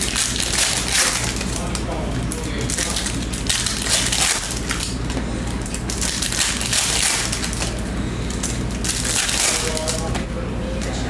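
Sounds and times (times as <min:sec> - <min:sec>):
foil wrapper crinkling: 0:00.0 - 0:10.2
low steady hum: 0:00.0 - 0:11.0.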